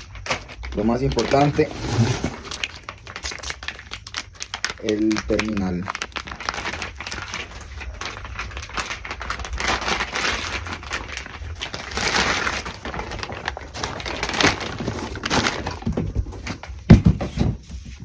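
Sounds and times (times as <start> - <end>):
packaging crinkling and rustling: 0.0 - 17.8.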